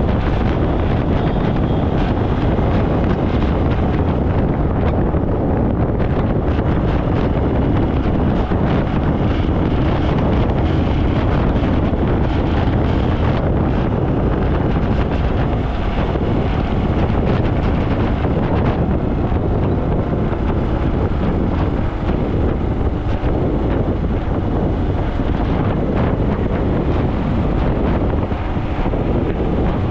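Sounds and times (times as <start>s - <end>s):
motorbike engine: 0.0s - 29.9s
road noise: 0.0s - 29.9s
wind rushing over microphone: 0.0s - 29.9s.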